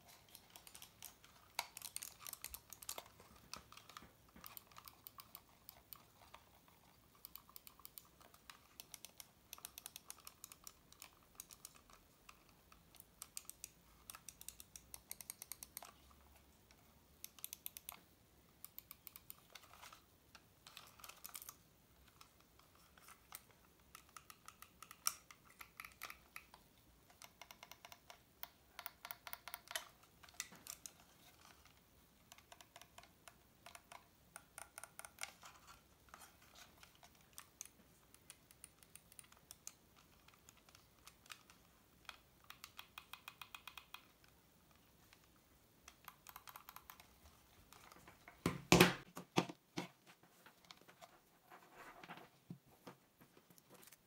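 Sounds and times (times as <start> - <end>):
computer mouse buttons clicking: 0.1 - 16.0, 17.2 - 20.0, 20.7 - 48.0.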